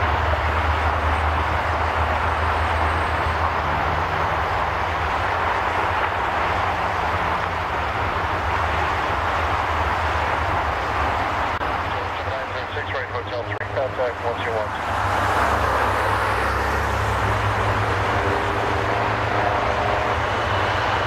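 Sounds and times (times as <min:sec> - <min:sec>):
jet engines at taxi power: 0:00.0 - 0:21.0.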